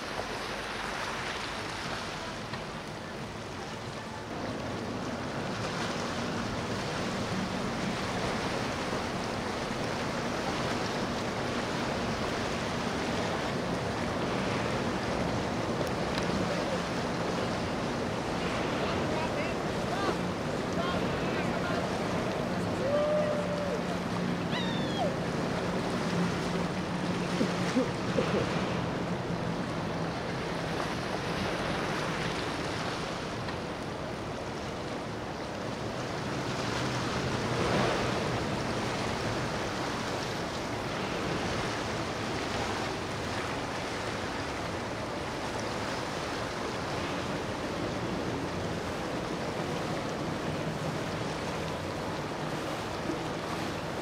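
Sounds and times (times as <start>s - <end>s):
boat wake and hull spray: 0.0s - 54.0s
low engine hum: 0.0s - 54.0s.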